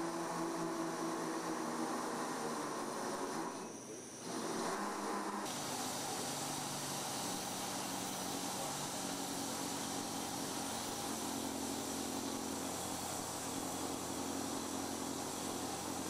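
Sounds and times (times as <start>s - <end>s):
machinery hiss: 2.8s - 16.0s.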